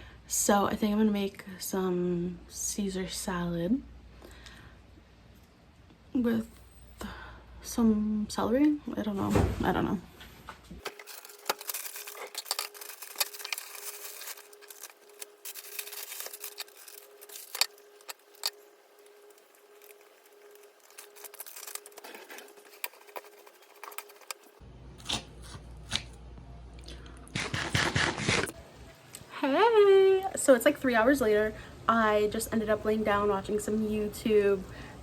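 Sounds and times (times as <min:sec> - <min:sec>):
faint steady hum: 0:00.0 - 0:27.4, 0:28.5 - 0:35.0.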